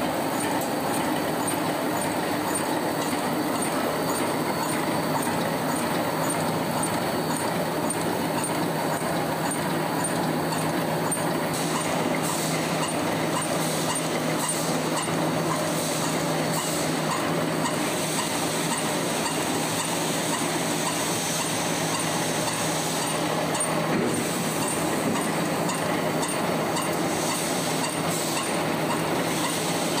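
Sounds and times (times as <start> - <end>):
machine clatter: 0.0 - 30.0.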